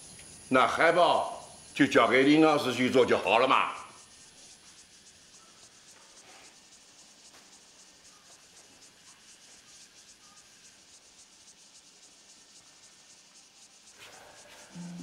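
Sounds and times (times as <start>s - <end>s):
soft high hiss: 0.0s - 15.0s.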